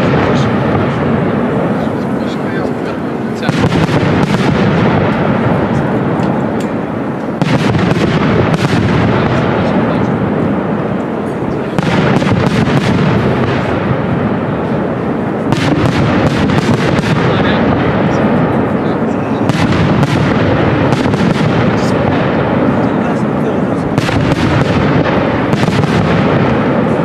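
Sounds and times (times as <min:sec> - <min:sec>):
fireworks bursting and crackling: 0:00.0 - 0:27.0.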